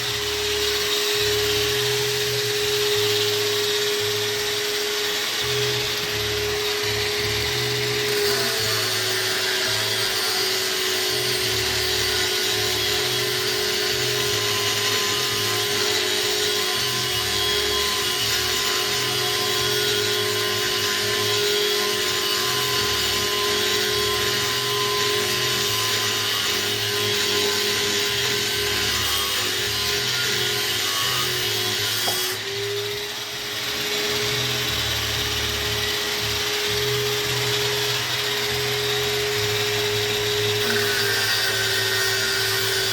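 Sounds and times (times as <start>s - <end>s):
angle grinder running: 0.0s - 42.9s.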